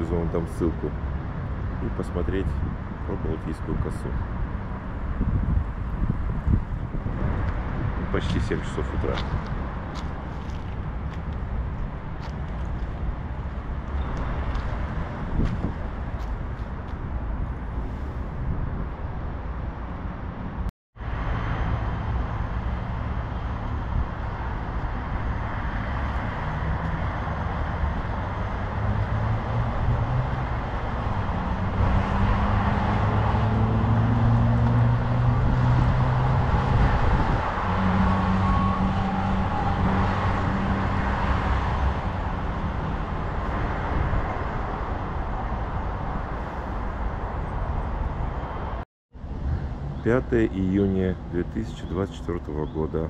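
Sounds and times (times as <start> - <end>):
passing road traffic: 0.0 - 53.0
vehicle engine low hum: 0.0 - 53.0.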